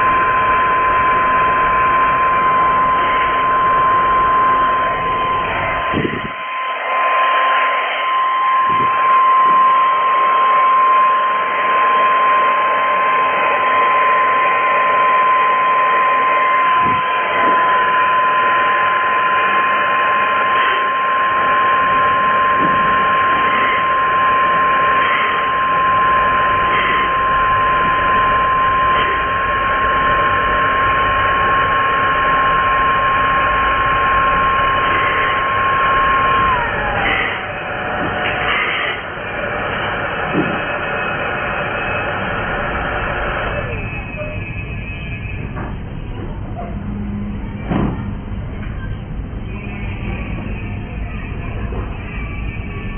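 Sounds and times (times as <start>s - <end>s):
hair dryer running: 0.0s - 43.8s.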